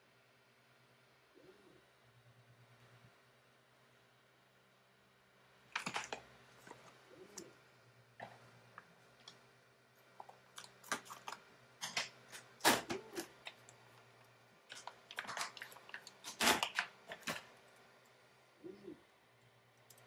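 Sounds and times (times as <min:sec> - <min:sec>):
faint motor hum: 0:00.0 - 0:20.0.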